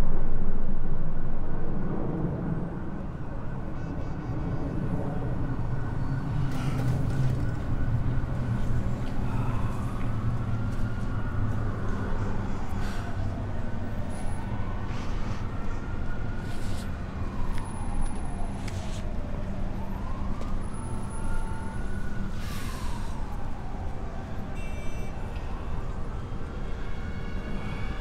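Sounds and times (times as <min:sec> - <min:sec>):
city traffic rumble: 0:00.0 - 0:28.0
siren wailing: 0:02.5 - 0:28.0.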